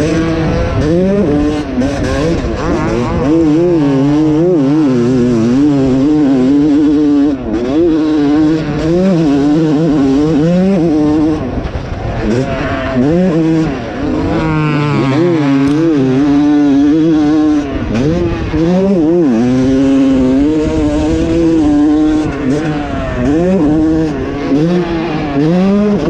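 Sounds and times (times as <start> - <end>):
motocross engine revving: 0.0 - 26.0.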